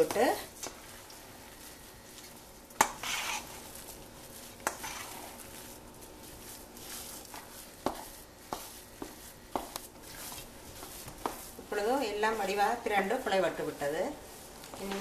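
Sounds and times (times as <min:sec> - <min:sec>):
dough scraping and squishing: 0:00.0 - 0:15.0.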